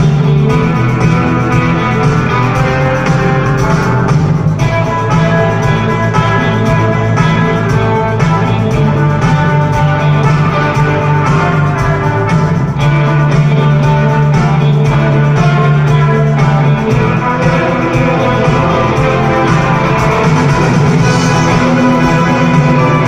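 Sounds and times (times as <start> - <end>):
guitars: 0.0 - 23.0
rock music with orchestra: 0.0 - 23.0
sustained bass line: 0.0 - 23.0.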